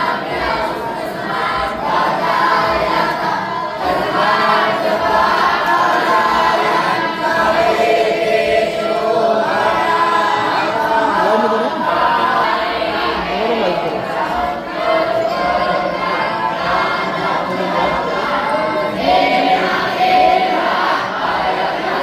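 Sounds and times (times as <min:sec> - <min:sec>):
voices chanting in unison: 0:00.0 - 0:22.0.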